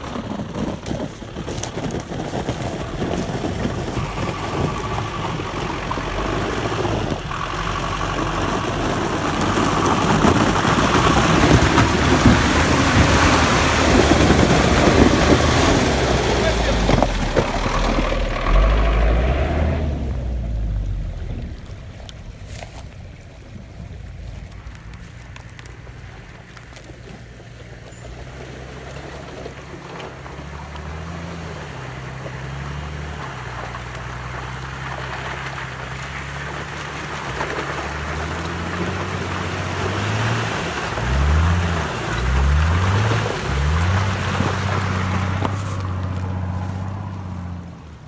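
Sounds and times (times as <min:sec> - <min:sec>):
suv engine revving: 0:00.0 - 0:48.0
water and ice splashing: 0:00.0 - 0:48.0.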